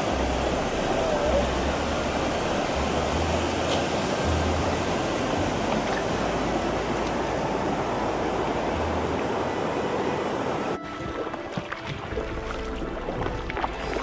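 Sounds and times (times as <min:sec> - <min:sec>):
water rushing over a weir: 0:00.0 - 0:14.0.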